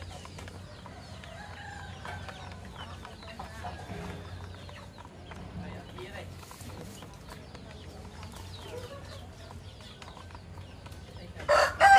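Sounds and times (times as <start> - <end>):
chickens clucking: 0.0 - 11.9.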